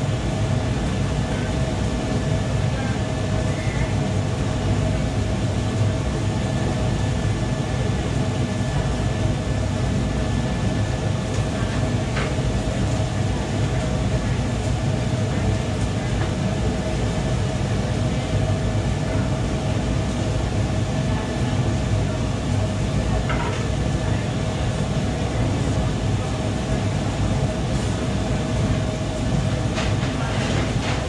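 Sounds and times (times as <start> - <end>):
constant hum: 0.0 - 31.0
extractor hood and gas range rumble: 0.0 - 31.0.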